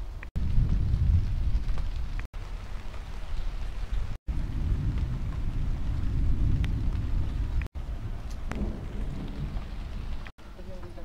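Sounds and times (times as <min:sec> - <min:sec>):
raindrops ticking: 0:00.1 - 0:11.0
thunder rumbling: 0:00.4 - 0:10.3.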